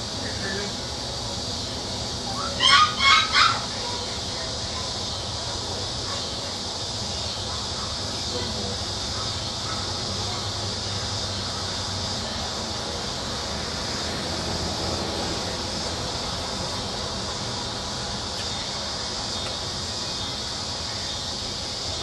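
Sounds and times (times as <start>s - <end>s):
high hiss: 0.0s - 22.0s.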